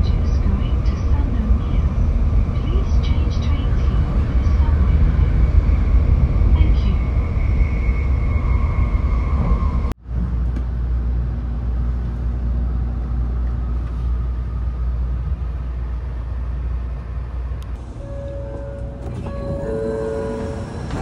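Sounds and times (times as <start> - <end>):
train running low rumble: 0.0 - 21.0.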